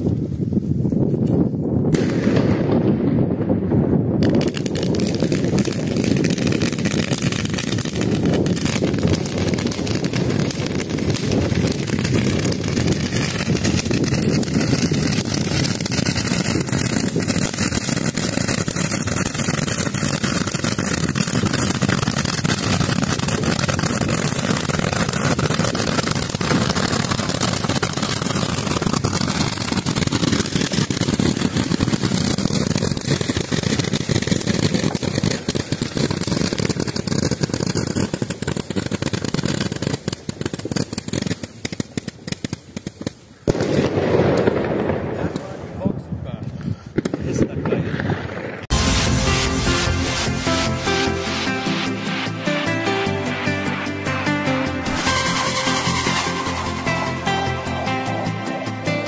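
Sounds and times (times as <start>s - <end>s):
fireworks crackling rapidly: 0.0s - 59.0s.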